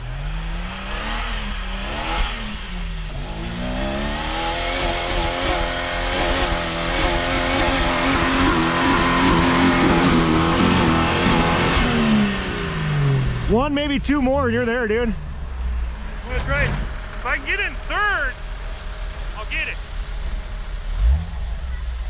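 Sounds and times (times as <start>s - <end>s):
engine revving hard: 0.0s - 14.9s, 16.2s - 18.3s, 20.9s - 21.8s.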